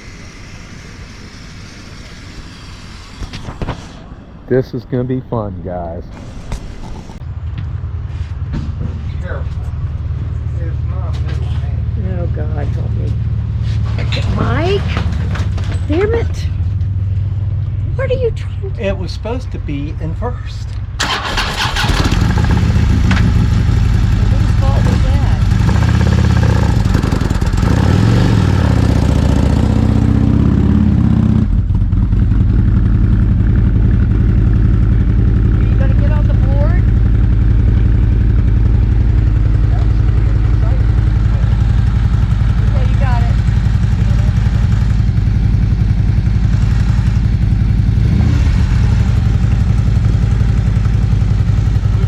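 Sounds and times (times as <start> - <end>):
motorcycle engine running: 7.0 - 52.0.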